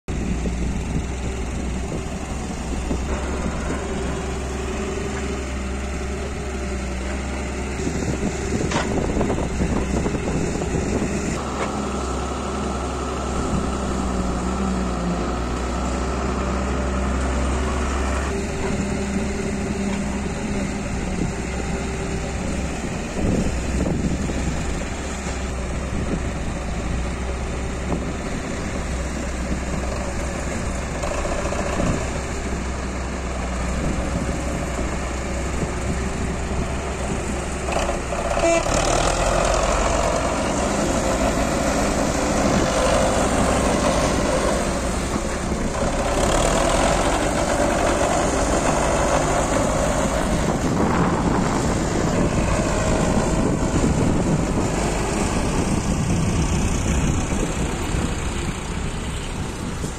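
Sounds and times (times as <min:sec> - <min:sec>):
excavator diesel engine: 0:00.1 - 0:59.9
tractor engine running: 0:00.1 - 0:59.9.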